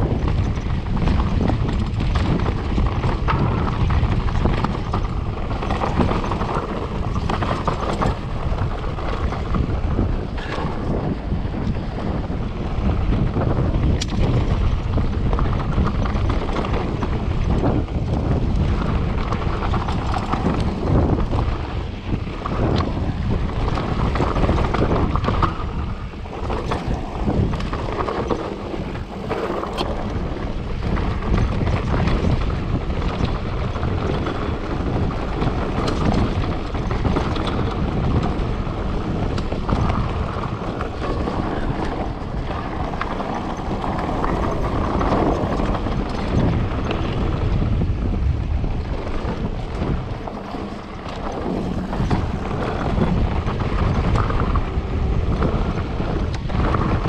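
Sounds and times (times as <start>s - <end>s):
bike clicks and rattles: 0.0s - 57.0s
tyres rumbling over rough trail: 0.0s - 57.0s
wind buffeting microphone: 0.0s - 57.0s.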